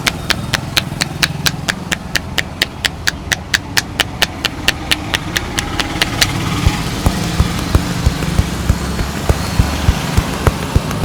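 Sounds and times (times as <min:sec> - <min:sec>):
scissors snipping: 0:00.0 - 0:11.0.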